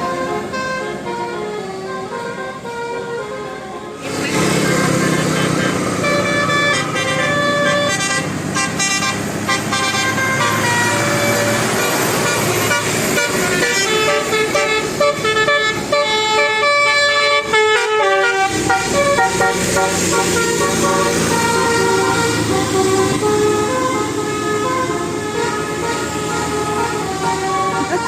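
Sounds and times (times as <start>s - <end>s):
multi-tone bus horn tune: 0.0s - 28.0s.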